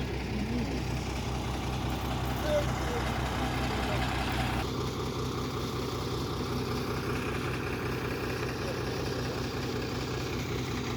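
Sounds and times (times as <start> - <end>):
vehicle engine idling: 0.0 - 10.9.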